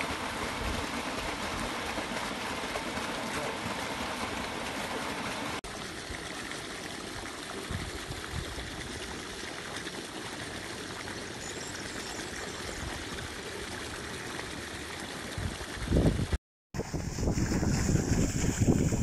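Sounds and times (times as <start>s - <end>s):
water gushing into canal: 0.0s - 19.0s.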